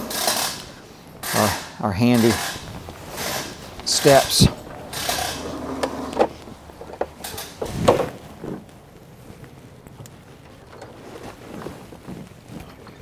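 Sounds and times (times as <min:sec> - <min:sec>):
quiet fumbling: 0:00.0 - 0:13.0.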